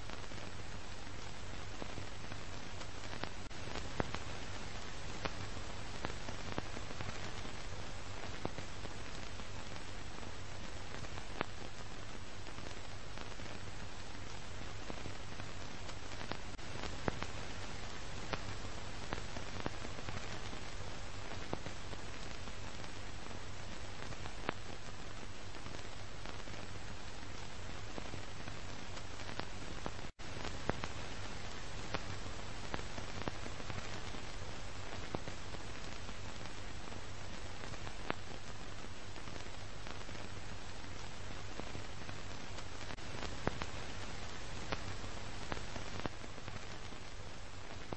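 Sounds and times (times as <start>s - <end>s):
static hiss with crackle: 0.0s - 47.9s.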